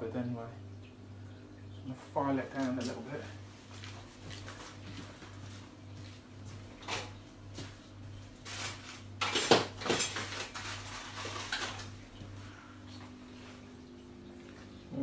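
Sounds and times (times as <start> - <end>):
steady low hum: 0.0 - 9.3, 10.2 - 15.0.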